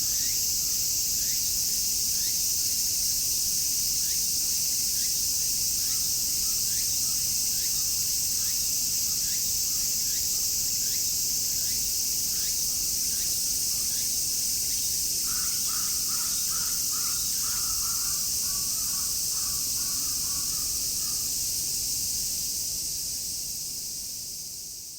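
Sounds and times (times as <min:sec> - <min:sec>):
cicadas shrilling: 0:00.0 - 0:24.9.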